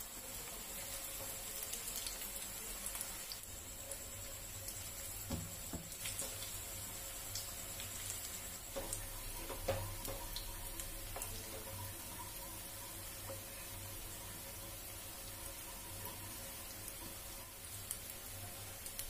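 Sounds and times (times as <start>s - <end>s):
food deep-frying in hot oil: 0.0s - 19.0s
oil crackling and popping: 0.1s - 12.5s, 15.9s - 19.0s.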